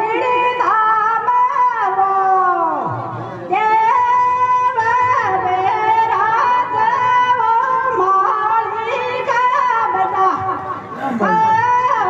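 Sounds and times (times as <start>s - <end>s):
woman singing wordless melody: 0.0s - 2.8s, 3.5s - 12.0s.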